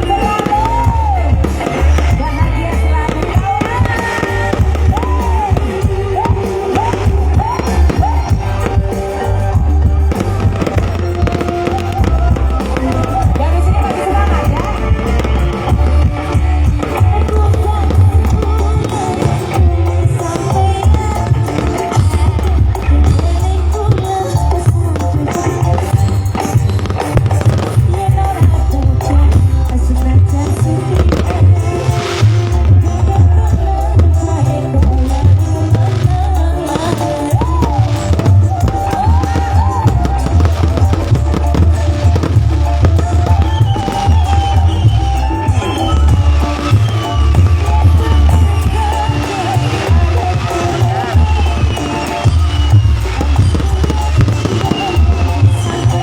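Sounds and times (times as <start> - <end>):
music with heavy bass beat: 0.0 - 56.0
sliding pitch melody: 0.0 - 56.0.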